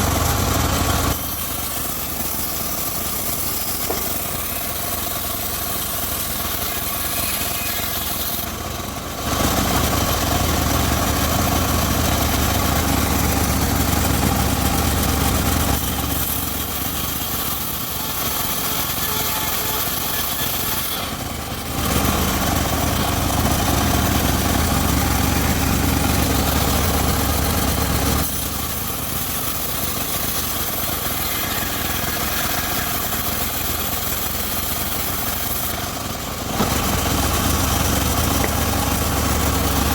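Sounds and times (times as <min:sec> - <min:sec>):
engine-driven circular saw cutting wood: 0:00.0 - 0:39.9.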